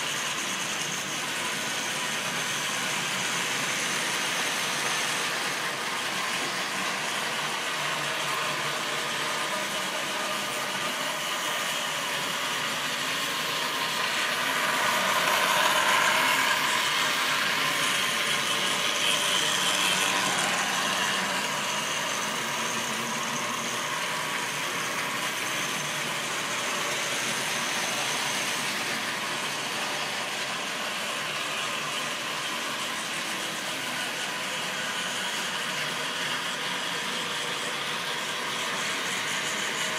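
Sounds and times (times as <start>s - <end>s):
model train wheels rumbling: 0.0s - 39.9s.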